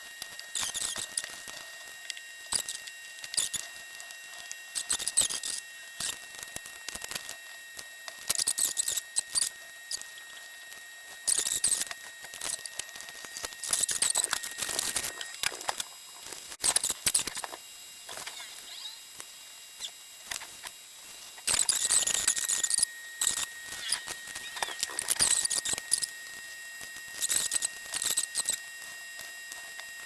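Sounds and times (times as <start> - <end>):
small tools clicking and scraping: 0.2 - 18.6, 19.8 - 26.2, 27.1 - 30.0.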